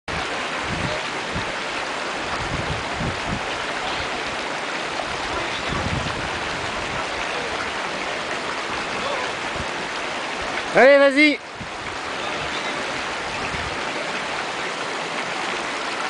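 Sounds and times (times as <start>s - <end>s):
river water rushing: 0.1s - 16.0s.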